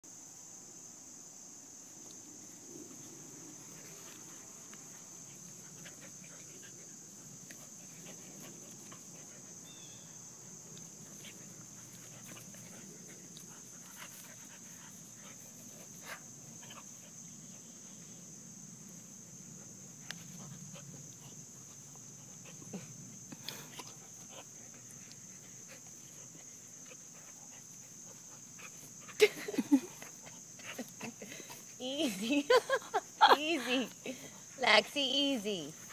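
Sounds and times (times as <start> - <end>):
high drone of insects: 0.0 - 35.9.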